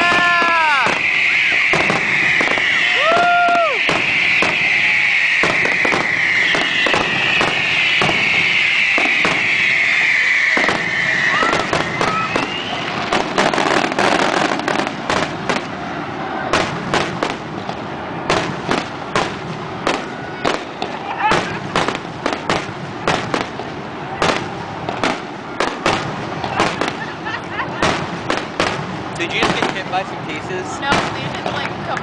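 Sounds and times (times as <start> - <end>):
firework whistles: 0.0 - 31.6
firework bangs: 0.0 - 32.0
firework crackling and popping: 0.0 - 32.0.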